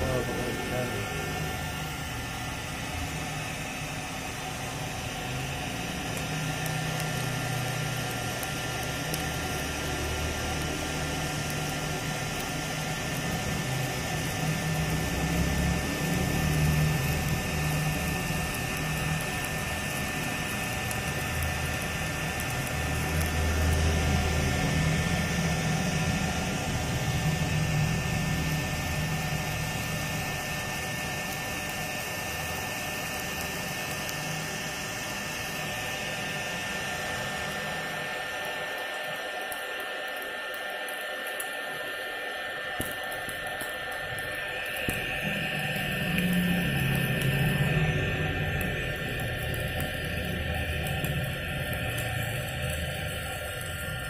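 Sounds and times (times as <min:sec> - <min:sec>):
heat gun fan whining: 0:00.0 - 0:54.0.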